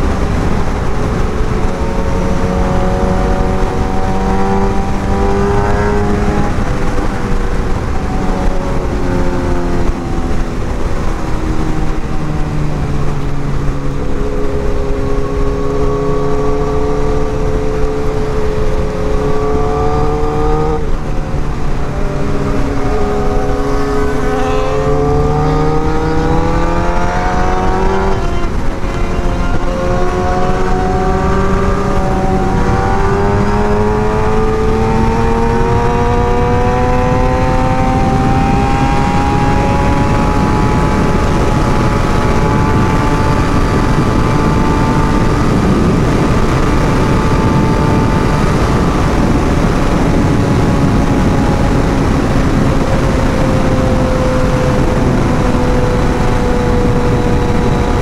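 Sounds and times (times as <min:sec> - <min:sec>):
heavy wind rush: 0:00.0 - 0:58.0
motorcycle engine revving: 0:00.0 - 0:58.0.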